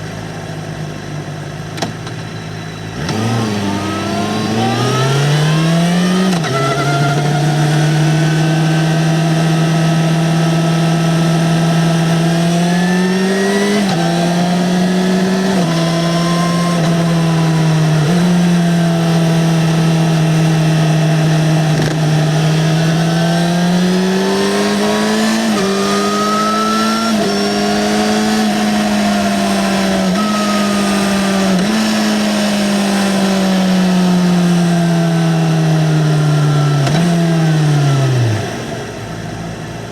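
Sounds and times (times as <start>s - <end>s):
motorcycle engine revving: 2.8s - 39.4s.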